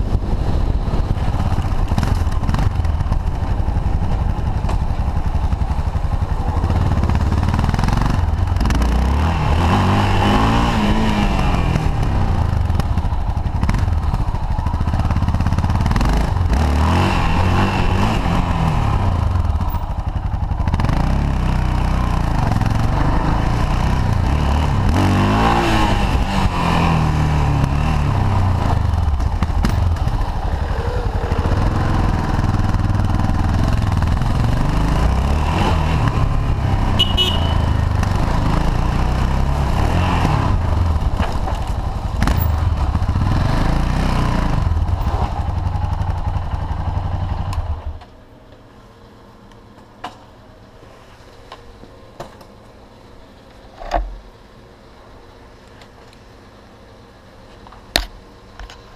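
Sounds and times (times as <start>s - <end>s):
motorcycle engine revving: 0.0s - 48.2s.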